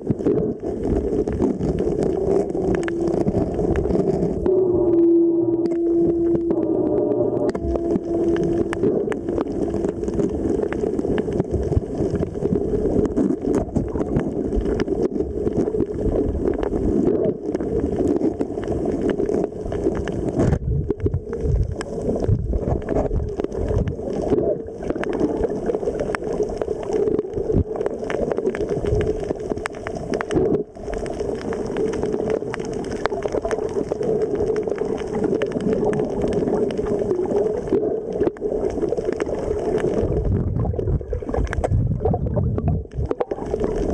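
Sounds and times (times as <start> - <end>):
underwater low rumble: 0.0 - 43.9
water gurgling against housing: 0.0 - 43.9.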